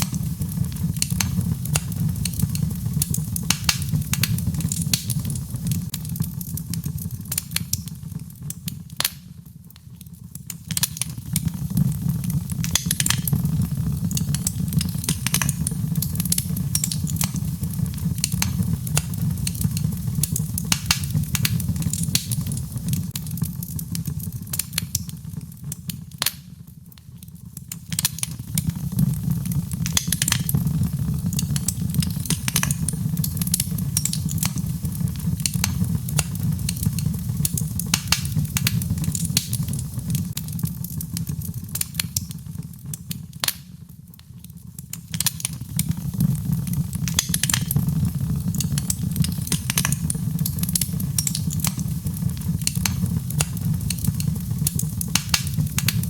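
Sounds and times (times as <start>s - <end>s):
burning wood crackling and popping: 0.0s - 56.0s
low rumble of flames: 0.0s - 56.0s.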